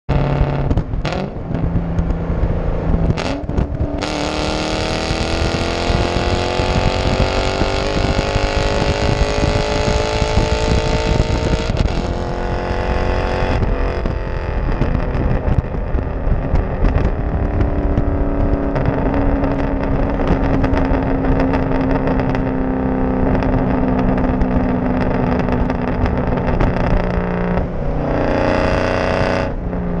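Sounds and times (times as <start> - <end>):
car engine at full throttle: 0.1 - 30.0
exhaust popping and crackling: 0.1 - 30.0.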